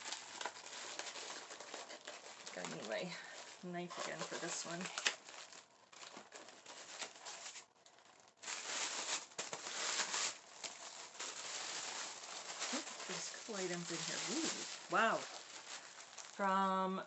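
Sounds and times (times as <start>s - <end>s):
wrapping crinkling and tearing: 0.0s - 17.0s.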